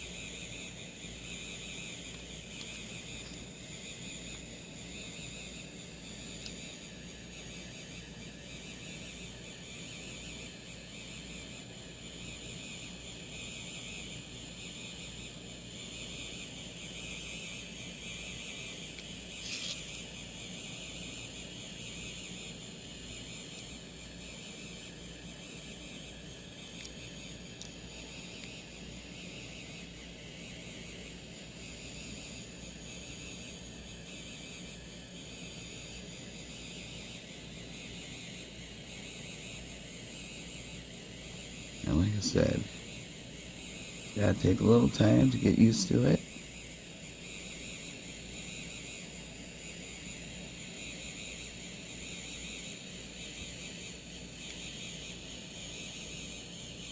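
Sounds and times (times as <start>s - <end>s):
pen motor and fan whirring: 0.0s - 56.9s.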